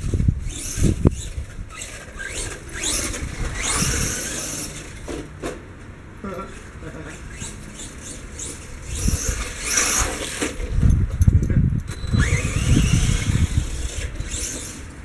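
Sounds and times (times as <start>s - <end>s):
electric motor whining: 0.0s - 5.2s, 6.5s - 10.8s, 12.0s - 15.0s
tyre and chassis noise on grass: 0.0s - 15.0s.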